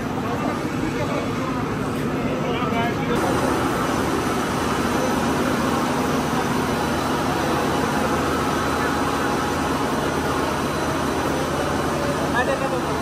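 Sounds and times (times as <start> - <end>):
pipe extrusion machine humming: 0.0 - 13.0.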